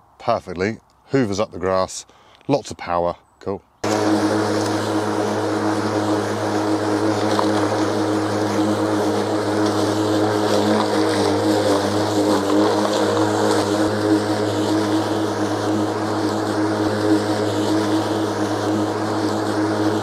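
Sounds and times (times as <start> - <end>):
electric lawn mower humming: 3.8 - 20.0.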